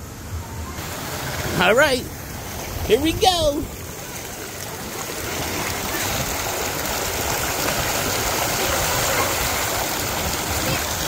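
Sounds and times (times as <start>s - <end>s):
water rushing down a slide: 0.8s - 11.0s
water splashing: 0.8s - 11.0s.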